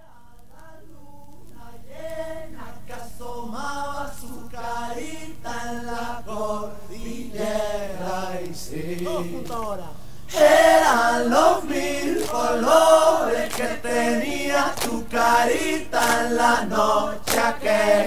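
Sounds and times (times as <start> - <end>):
steady low hum: 0.0 - 18.0
voices singing chant-like notes: 0.0 - 18.0.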